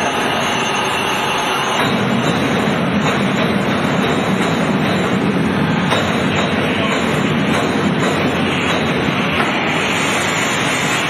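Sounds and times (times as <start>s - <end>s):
crane hoist rumble: 0.0s - 11.0s.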